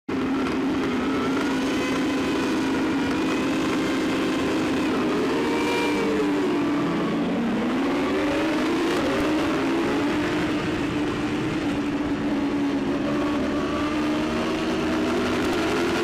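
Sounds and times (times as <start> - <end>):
motorbike engines running: 0.1 - 16.0.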